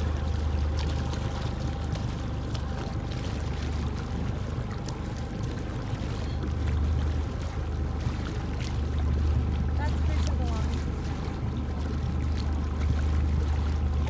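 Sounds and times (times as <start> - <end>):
boat motor running: 0.0 - 14.0
water rushing and splashing: 0.0 - 14.0.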